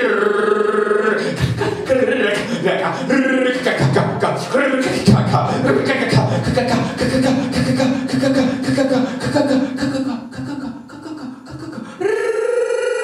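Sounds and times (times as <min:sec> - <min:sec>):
man's held vocal tone: 0:00.0 - 0:13.0.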